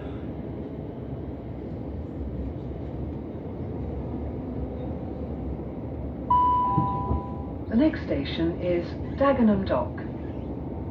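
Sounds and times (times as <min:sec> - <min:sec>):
train rumbling on rails: 0:00.0 - 0:10.9.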